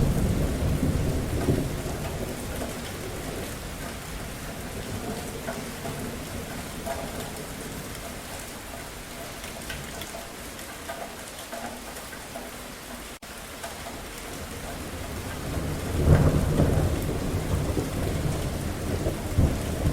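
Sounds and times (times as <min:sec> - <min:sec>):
thunder rumbling: 0:00.0 - 0:10.0, 0:13.9 - 0:19.9
steady rainfall: 0:00.0 - 0:19.9.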